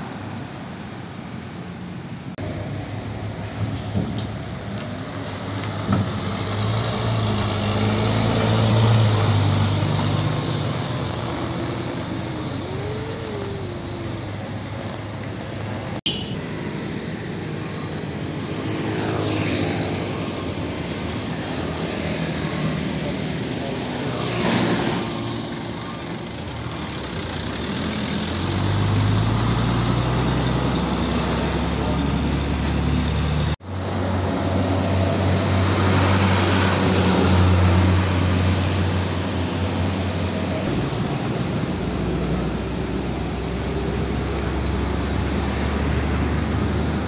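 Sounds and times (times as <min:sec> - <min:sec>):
passing traffic noise: 0:00.0 - 0:47.0
diesel truck engine running: 0:02.3 - 0:47.0.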